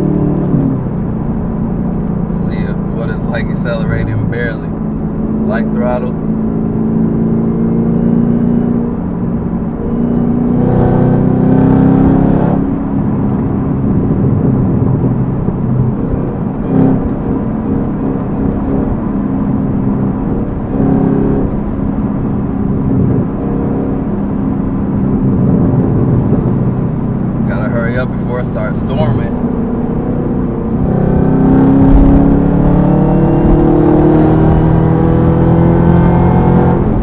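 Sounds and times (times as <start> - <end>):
car engine running while driving: 0.0 - 37.0.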